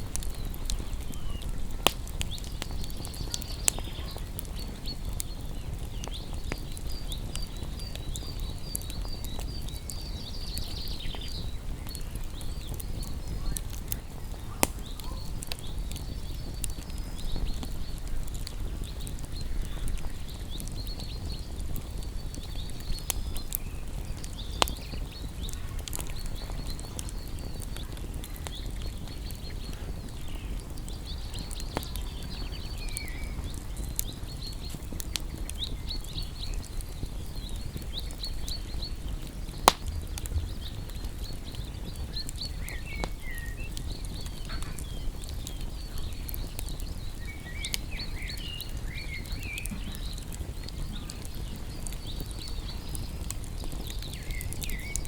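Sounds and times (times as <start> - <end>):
campfire crackling and popping: 0.0 - 55.0
low steady fire rumble: 0.0 - 55.0.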